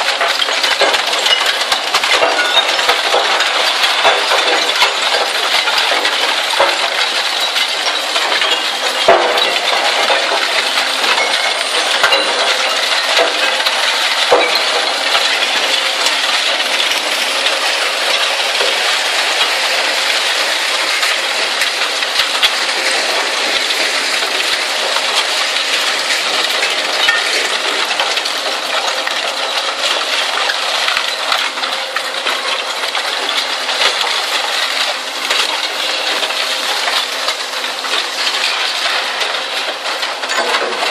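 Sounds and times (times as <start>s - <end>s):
steel scrap clattering: 0.0s - 40.9s.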